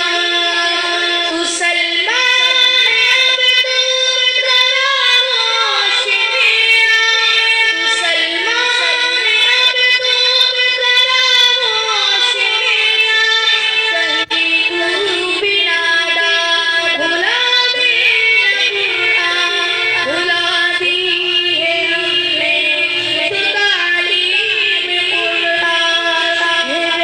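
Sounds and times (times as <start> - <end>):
person singing unaccompanied: 0.0 - 27.0.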